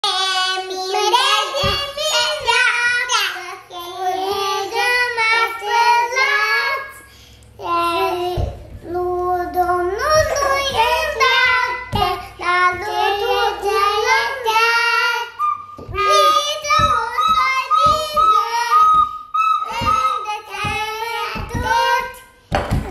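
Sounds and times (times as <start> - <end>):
small children singing: 0.0 - 22.9.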